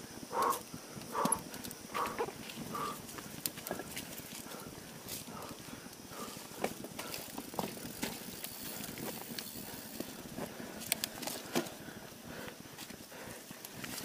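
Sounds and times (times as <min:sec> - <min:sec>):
tyre and wind noise: 0:00.0 - 0:14.0
bike rattling over bumps: 0:00.2 - 0:14.0.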